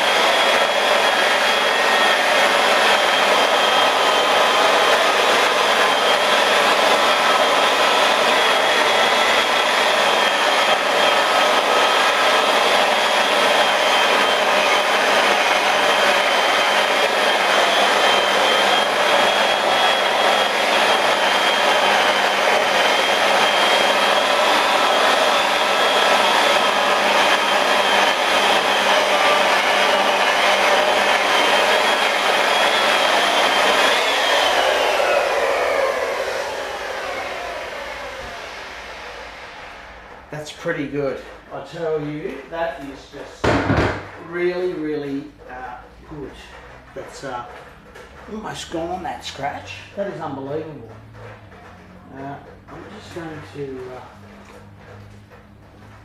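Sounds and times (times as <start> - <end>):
rotary polisher motor whine: 0.0 - 42.4, 48.2 - 56.0.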